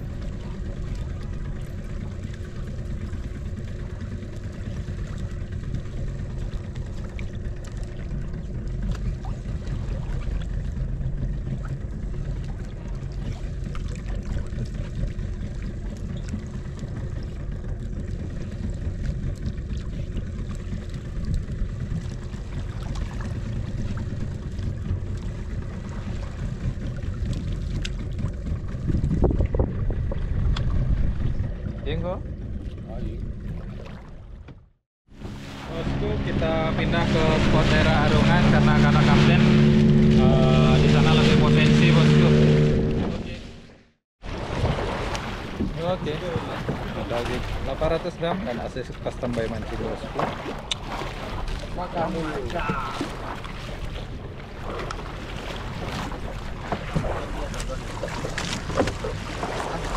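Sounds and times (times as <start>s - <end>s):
boat motor rumbling: 0.0s - 59.9s.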